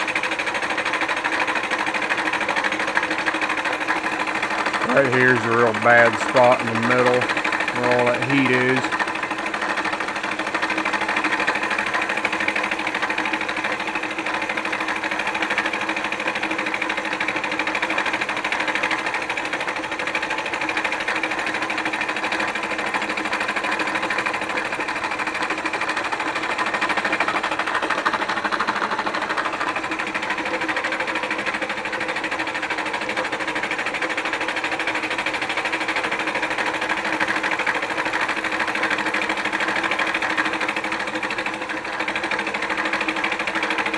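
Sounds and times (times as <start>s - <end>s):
cutter shaving metal: 0.0s - 43.9s
milling spindle hum: 1.2s - 19.8s, 20.9s - 43.9s.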